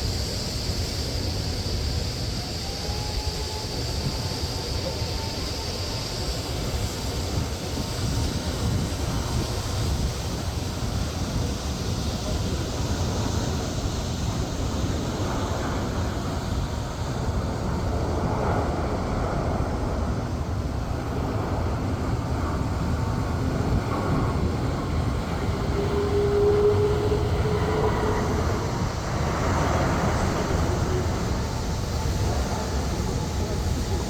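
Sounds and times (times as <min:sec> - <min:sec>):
jet engines rumbling: 0:00.0 - 0:34.0
wind buffeting microphone: 0:00.0 - 0:34.0.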